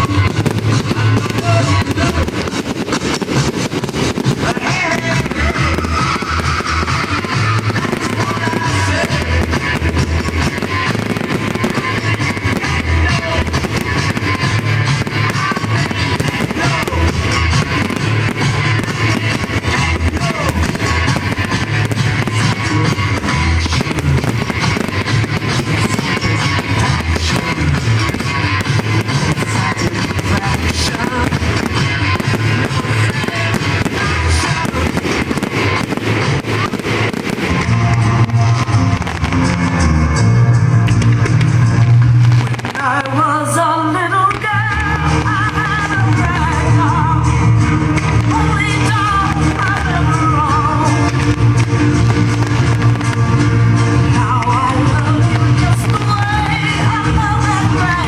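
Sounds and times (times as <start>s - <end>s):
rock music with guitar: 0.0s - 43.2s, 44.3s - 58.0s
fireworks crackling and booming: 0.0s - 58.0s.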